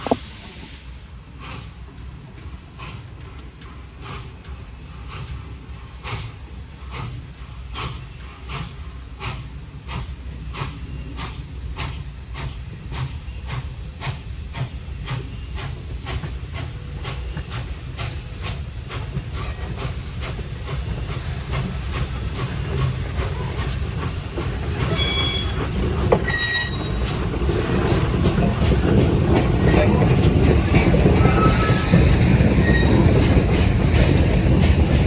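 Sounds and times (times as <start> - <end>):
steam hiss: 0.0 - 35.0
steam locomotive chuffing: 0.0 - 35.0.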